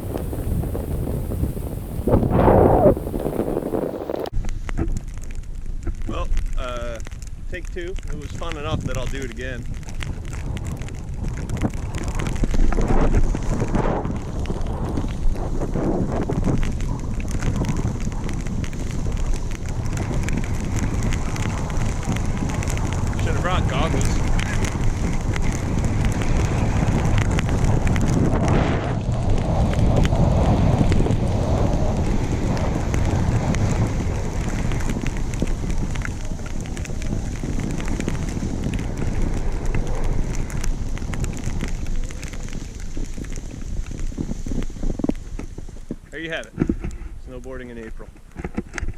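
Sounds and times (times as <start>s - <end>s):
snowboard scraping on snow: 0.0s - 4.6s, 10.1s - 45.9s
wind buffeting microphone: 0.0s - 48.9s.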